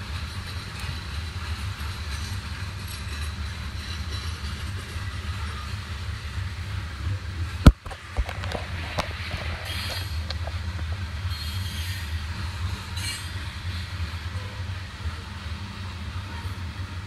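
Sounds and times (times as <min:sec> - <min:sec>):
train rumbling over crossing: 0:00.0 - 0:17.0.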